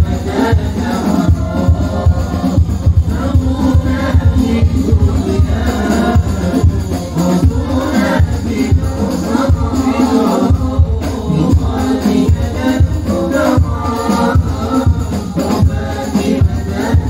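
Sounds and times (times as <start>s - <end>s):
hand drums beating: 0.0s - 17.0s
jingling percussion: 0.0s - 17.0s
men singing through loudspeaker: 0.0s - 17.0s.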